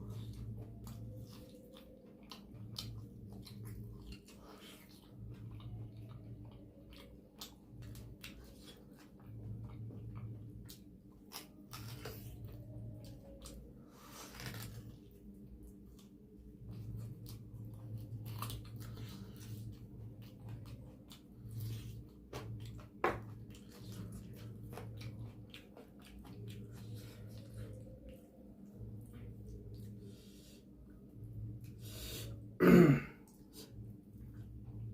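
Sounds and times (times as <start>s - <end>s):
person chewing food: 0.0s - 31.8s
low room hum: 0.0s - 34.9s.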